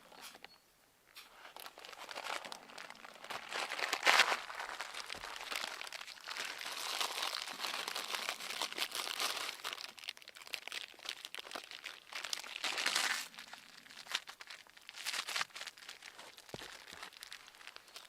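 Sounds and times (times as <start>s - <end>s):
rustling and crunching: 0.0s - 18.0s.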